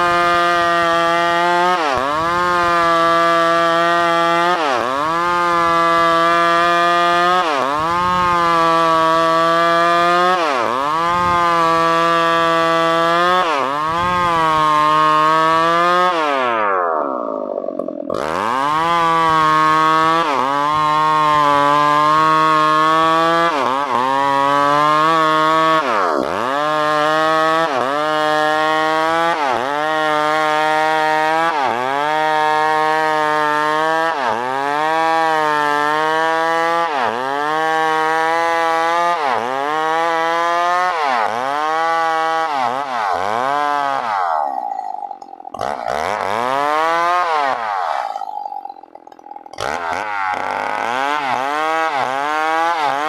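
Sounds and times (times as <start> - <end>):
chainsaw sawing wood: 0.0 - 53.0.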